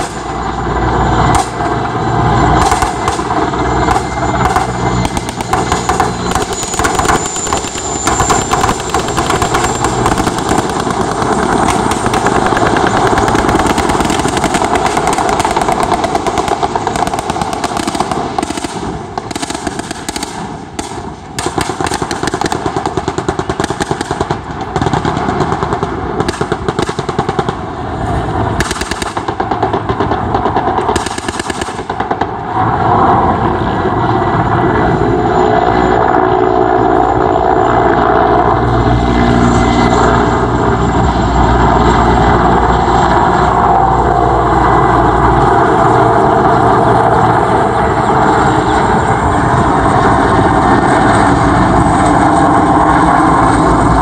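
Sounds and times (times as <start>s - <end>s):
helicopter engine noise: 0.0s - 54.0s
helicopter rotor chopping: 0.0s - 54.0s.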